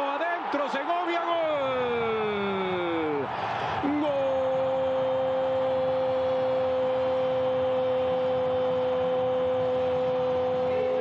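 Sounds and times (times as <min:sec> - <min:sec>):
stadium crowd noise: 0:00.0 - 0:11.0.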